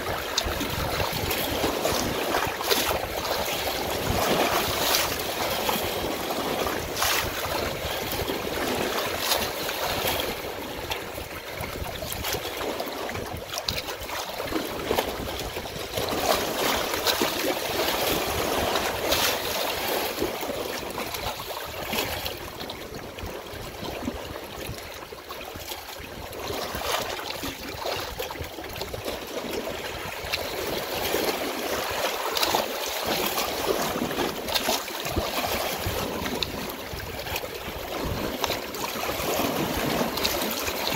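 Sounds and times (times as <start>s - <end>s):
stream flowing and splashing: 0.0s - 40.9s.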